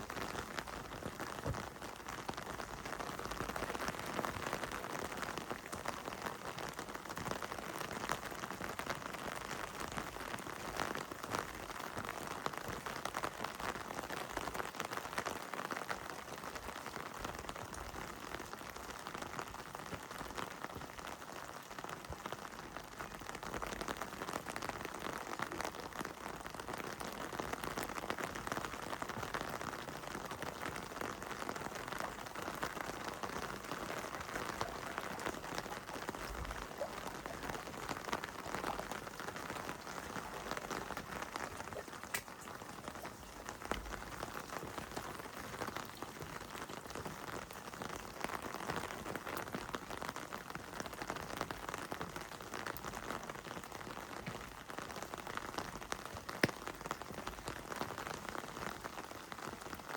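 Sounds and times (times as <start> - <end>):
heavy rain on hard surfaces: 0.0 - 59.9.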